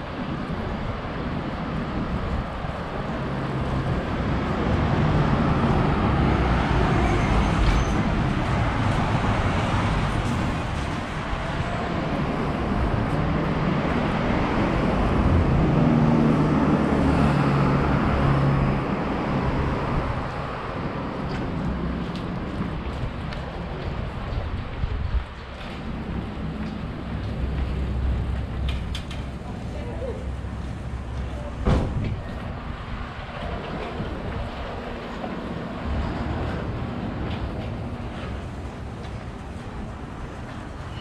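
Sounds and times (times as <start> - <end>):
cars passing: 0.0 - 41.0.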